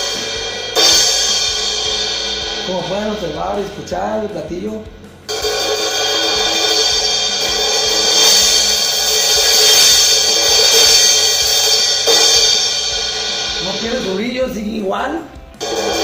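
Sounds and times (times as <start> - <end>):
cymbal struck with drumsticks: 0.0 - 14.8, 15.6 - 16.0.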